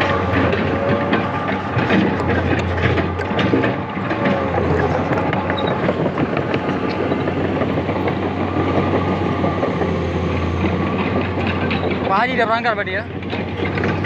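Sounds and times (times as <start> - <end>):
excavator diesel engine running: 0.0 - 14.0
metallic knocks and clatter: 0.0 - 14.0.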